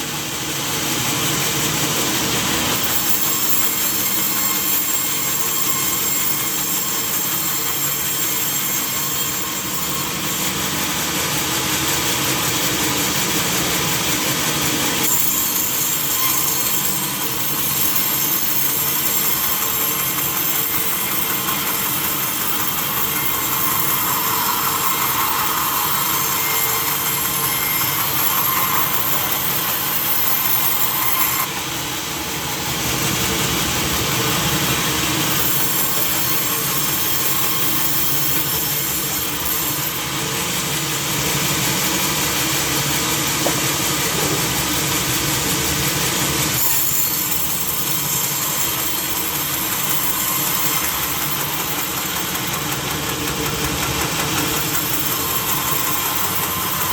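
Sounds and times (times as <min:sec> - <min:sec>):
sawmill saw cutting wood: 0:00.0 - 0:56.9.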